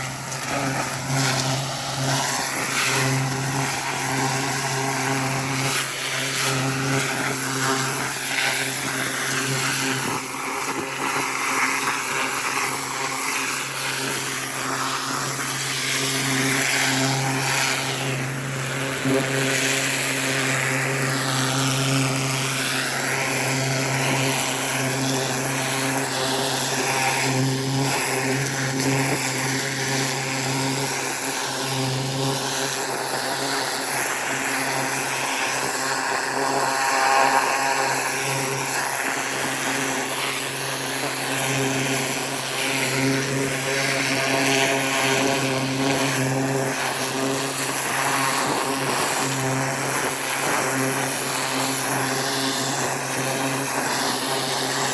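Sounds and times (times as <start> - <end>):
pressure washer motor humming: 0.0 - 54.9
water jet hissing on soil: 0.0 - 54.9.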